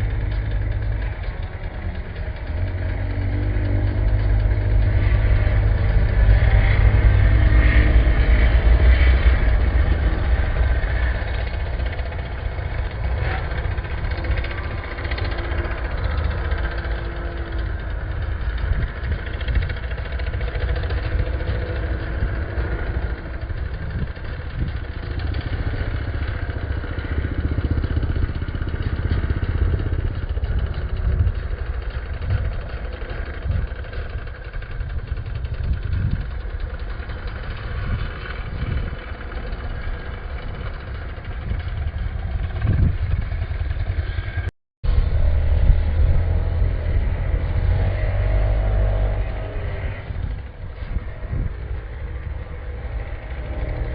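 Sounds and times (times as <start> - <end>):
motocross bike engines: 0.0 - 53.9.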